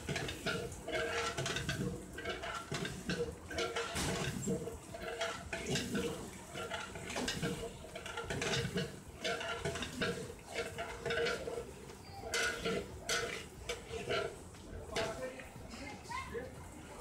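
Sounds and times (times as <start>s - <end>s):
metal ladle scraping in pot: 0.0s - 15.4s.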